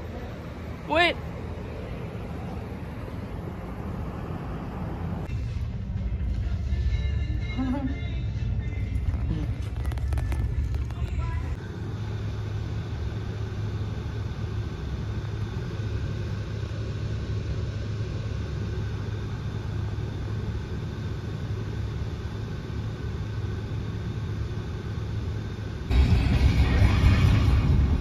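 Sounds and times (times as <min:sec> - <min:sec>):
car engine idling: 0:00.0 - 0:28.0
road and wind noise: 0:00.0 - 0:28.0.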